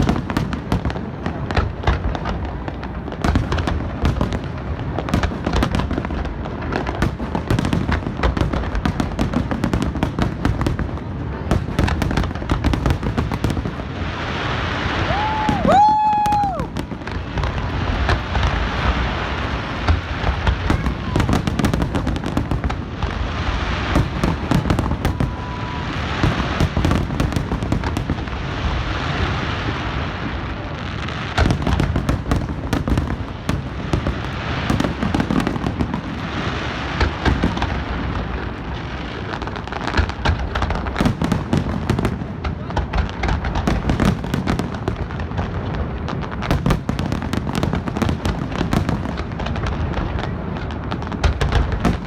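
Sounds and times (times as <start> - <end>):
fireworks booming: 0.0 - 52.0
fireworks crackling: 0.0 - 52.0.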